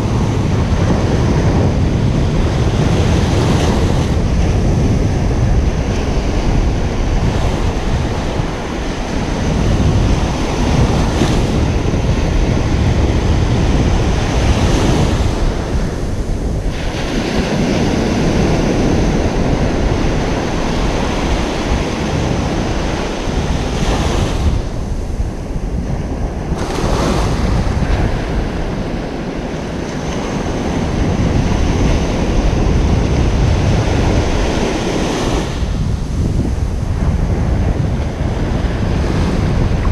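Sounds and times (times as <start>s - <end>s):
surf breaking on beach: 0.0s - 39.9s
wind buffeting microphone: 0.0s - 39.9s.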